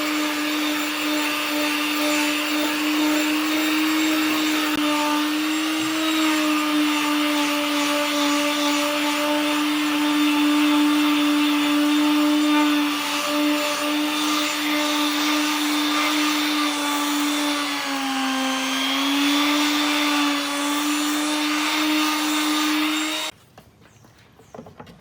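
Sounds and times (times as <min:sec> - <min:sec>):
electric power tool whining: 0:00.0 - 0:23.3.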